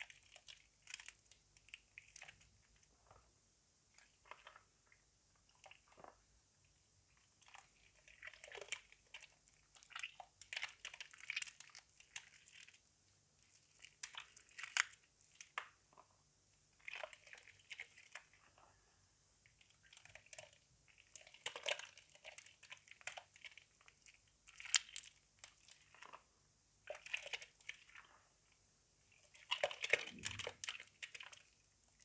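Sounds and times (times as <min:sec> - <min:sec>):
soaked soap crackling and crunching: 0:00.0 - 0:32.0.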